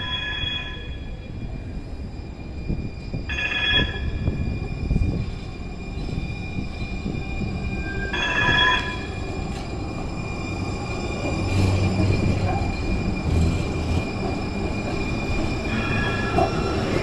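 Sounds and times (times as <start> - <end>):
high-pitched wheel squeals: 0.0 - 17.0
train wheels rumbling on track: 0.0 - 17.0.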